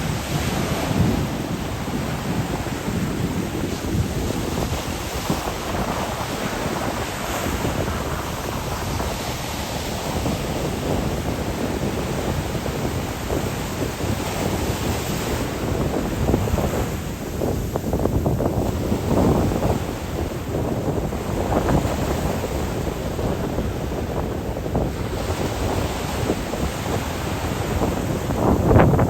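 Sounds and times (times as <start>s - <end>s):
sea waves washing on shore: 0.0s - 29.0s
wind buffeting microphone: 0.0s - 29.0s.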